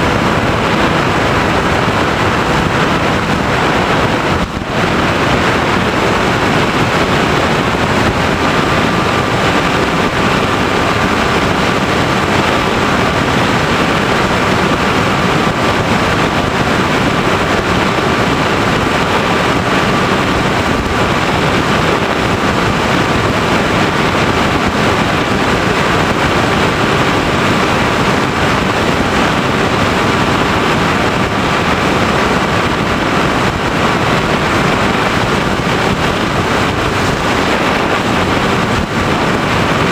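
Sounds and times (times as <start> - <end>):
faint steady whine: 0.0 - 39.9
wind and propeller noise: 0.0 - 39.9.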